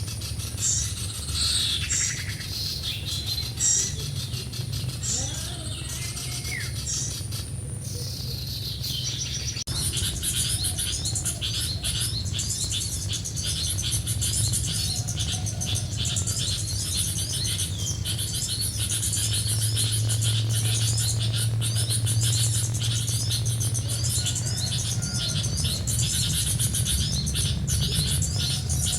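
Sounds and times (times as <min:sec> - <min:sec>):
small birds chirping: 0:00.0 - 0:28.9
steady low hum: 0:00.0 - 0:28.9.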